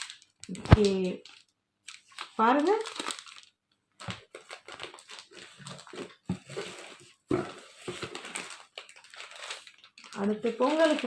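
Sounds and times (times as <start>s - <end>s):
plastic food packets crinkling: 0.0s - 11.0s.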